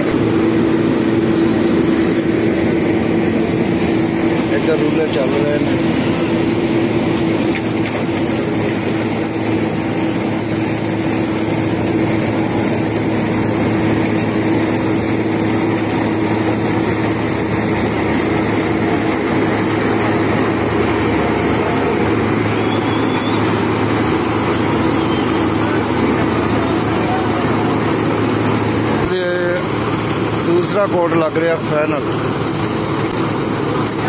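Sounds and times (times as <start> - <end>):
road rollers engine drone: 0.0 - 34.0.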